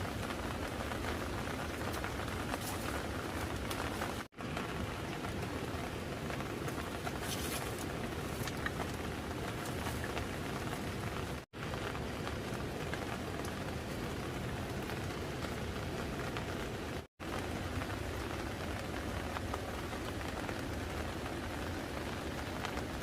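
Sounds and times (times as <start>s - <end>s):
rain pattering on surfaces: 0.0s - 23.0s.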